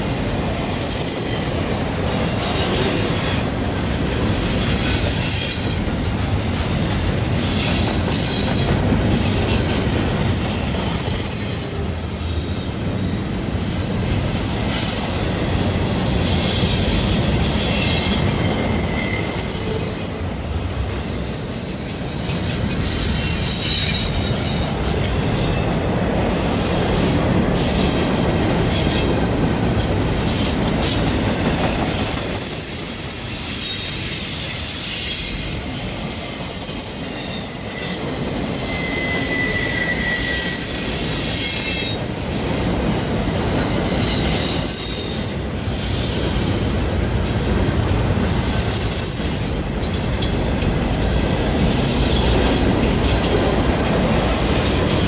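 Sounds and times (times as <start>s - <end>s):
high-pitched wheel squeal: 0.0s - 3.6s, 4.2s - 6.1s, 7.1s - 26.0s, 29.8s - 51.0s
freight train rumble and clatter: 0.0s - 55.0s.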